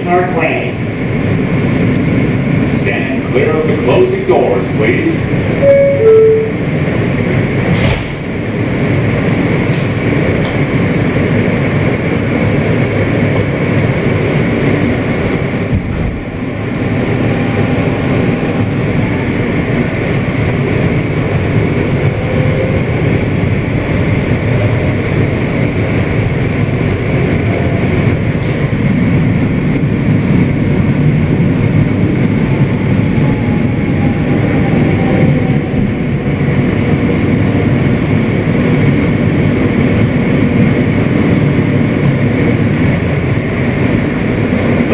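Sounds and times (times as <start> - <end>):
constant high hum: 0.0 - 44.9
wheels rumbling on rail: 0.0 - 44.9.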